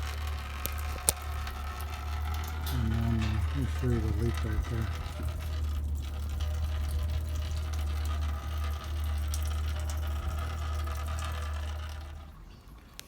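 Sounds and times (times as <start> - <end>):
coolant draining in a stream: 0.0 - 13.0
low rumble: 0.2 - 12.3.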